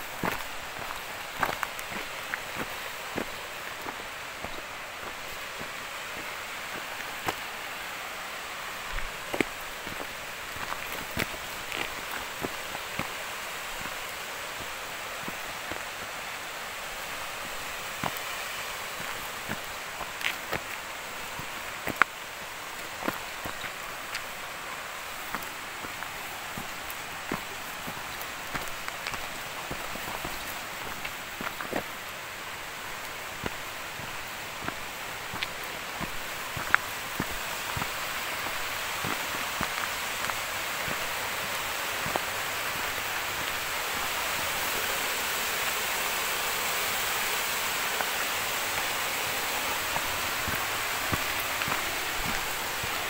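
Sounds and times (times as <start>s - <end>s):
footsteps crunching on dirt: 0.0s - 8.0s, 8.6s - 44.3s, 47.4s - 53.0s
flowing water rushing: 0.0s - 53.0s.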